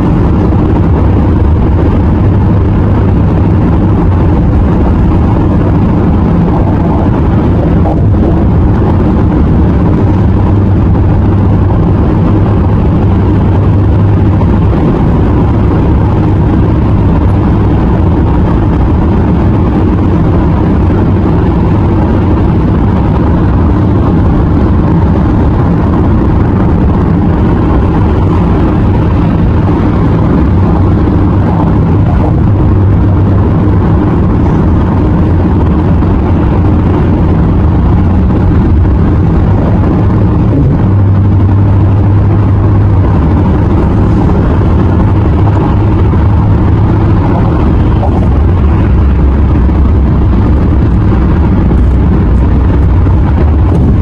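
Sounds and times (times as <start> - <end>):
car road and tyre rumble: 0.0 - 54.0.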